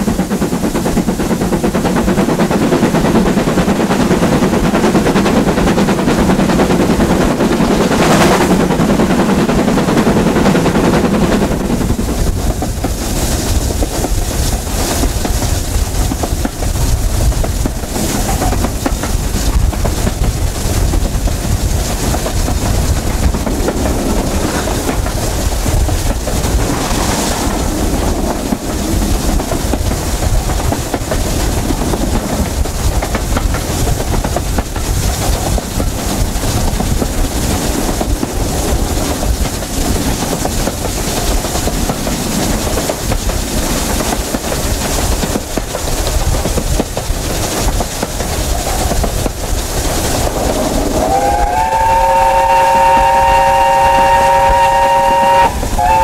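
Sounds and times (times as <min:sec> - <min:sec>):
steam hiss bursts: 0:00.0 - 0:56.0
train wheels rumbling on rails: 0:00.0 - 0:56.0.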